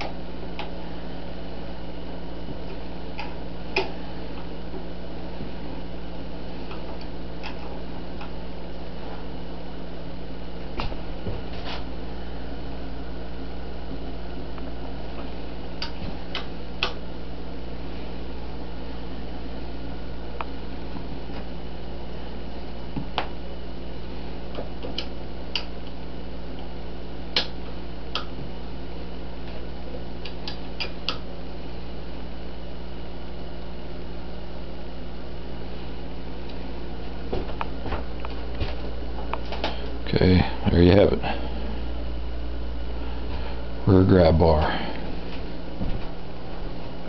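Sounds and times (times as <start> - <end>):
steady background hum: 0.0 - 47.0.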